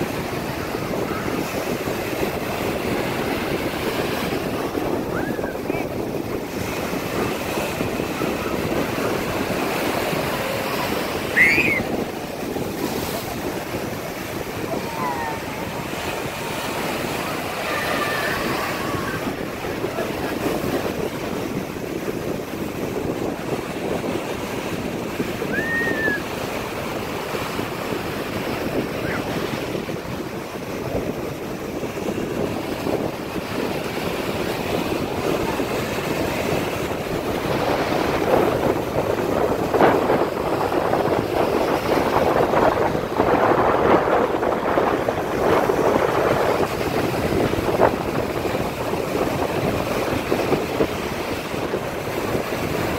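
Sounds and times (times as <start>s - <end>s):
surf breaking on sandy beach: 0.0s - 52.9s
wind on microphone: 0.0s - 52.9s.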